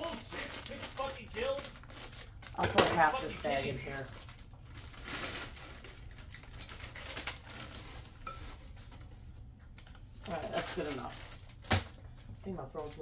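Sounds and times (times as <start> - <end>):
plastic bag crinkling: 0.0 - 9.1, 10.1 - 12.2.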